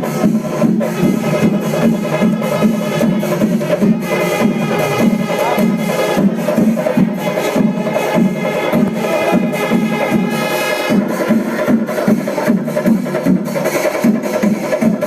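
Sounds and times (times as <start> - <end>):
music with steady beat: 0.0 - 15.0.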